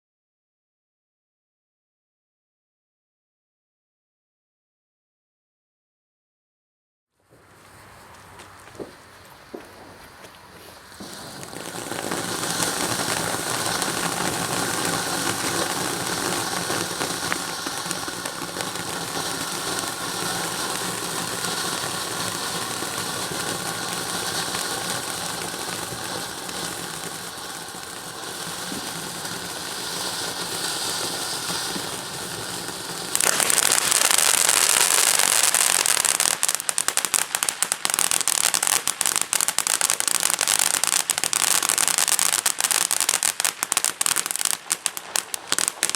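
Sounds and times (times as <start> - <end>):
firework fountain spraying hiss: 7.3 - 45.9
rapid firework crackling: 7.8 - 45.9.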